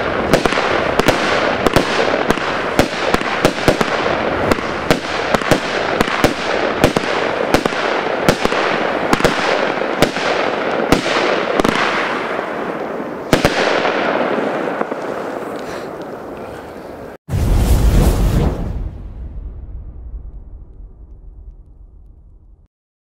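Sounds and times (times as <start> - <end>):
firework crackle: 0.0 - 22.3
firework reports: 0.0 - 22.4.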